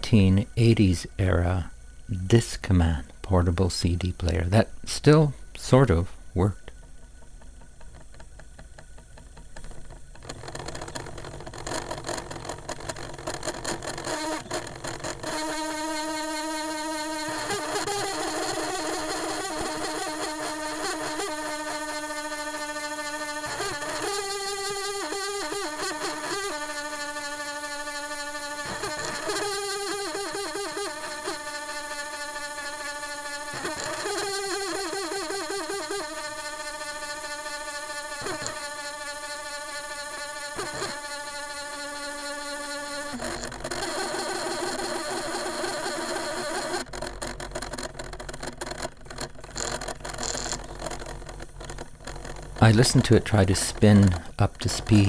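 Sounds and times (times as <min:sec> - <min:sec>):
cd player motor whirring: 0:00.0 - 0:55.0
motor clicking: 0:03.0 - 0:55.0.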